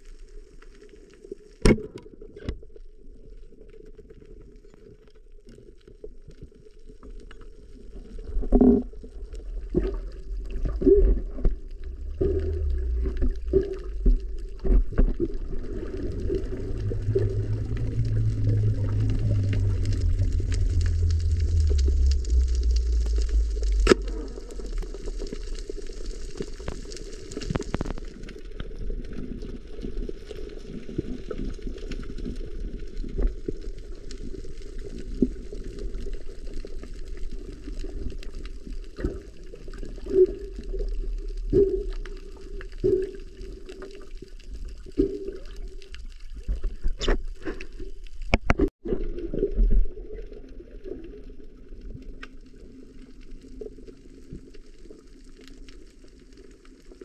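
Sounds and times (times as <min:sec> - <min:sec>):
water moving and bubbling: 0:00.0 - 0:57.0.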